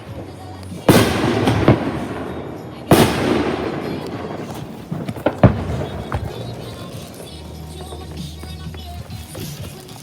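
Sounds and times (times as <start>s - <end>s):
fireworks bangs: 0.0s - 9.7s
small firework pops: 0.0s - 10.0s.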